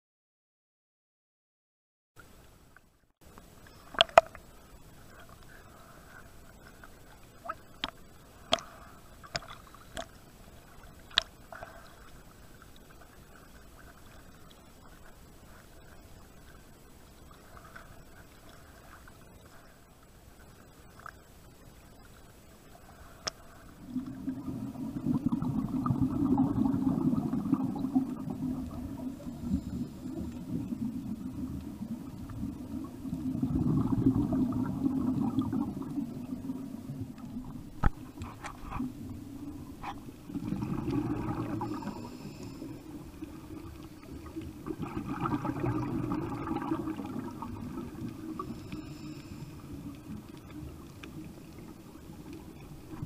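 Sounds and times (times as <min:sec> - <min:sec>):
water at the surface: 0:02.2 - 0:53.0
underwater bubbles gurgling: 0:03.4 - 0:53.0.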